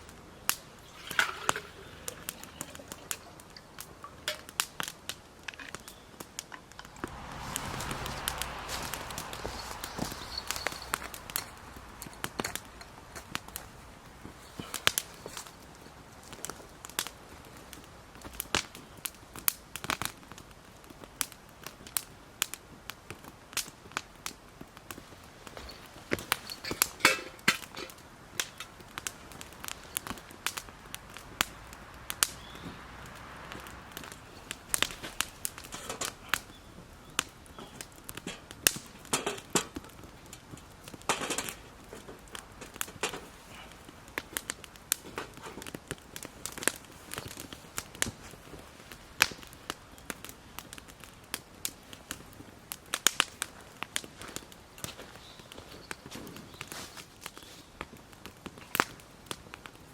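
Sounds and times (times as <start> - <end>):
wood and twigs snapping and crackling: 0.0 - 59.9.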